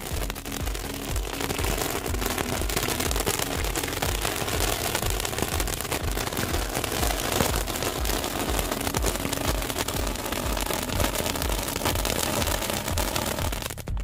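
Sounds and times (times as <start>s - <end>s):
firework sparks hissing and crackling: 0.0s - 14.0s.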